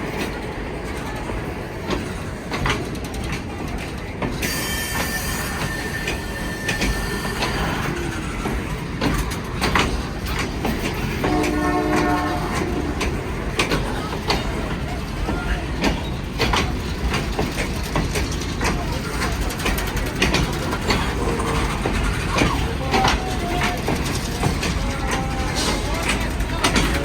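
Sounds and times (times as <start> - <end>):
train rumbling on track: 0.0 - 27.0
wheels clacking over rail joints: 0.0 - 27.0.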